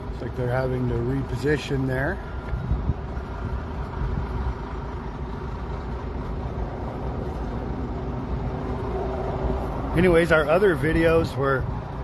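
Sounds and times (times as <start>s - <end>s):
heavy diesel engines rumbling: 0.0s - 12.0s.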